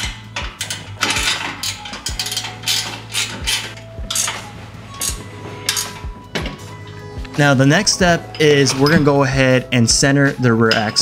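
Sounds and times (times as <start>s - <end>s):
wrenches clinking against metal: 0.0s - 7.0s, 7.9s - 9.5s, 10.6s - 11.0s.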